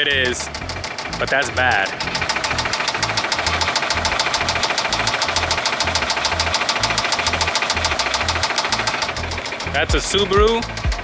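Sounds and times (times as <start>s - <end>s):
engine running with rapid knock: 0.0s - 11.0s.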